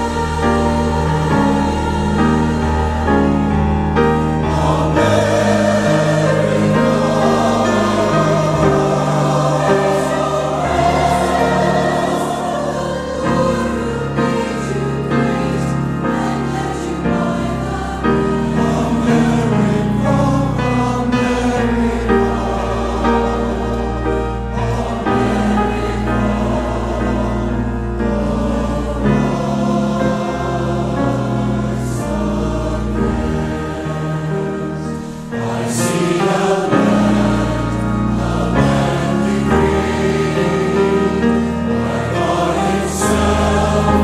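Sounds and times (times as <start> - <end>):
choir singing a hymn: 0.0 - 44.0
low accompanying notes: 0.0 - 44.0.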